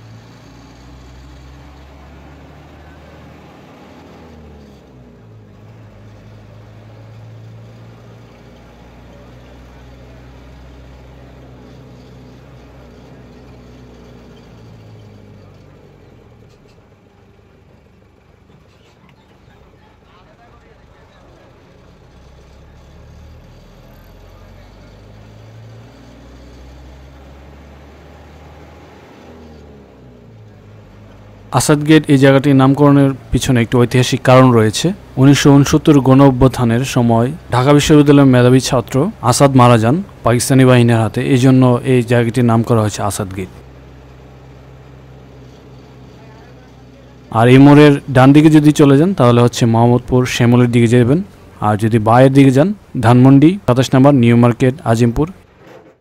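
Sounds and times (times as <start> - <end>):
vehicle engine and tyre noise: 0.0 - 56.0.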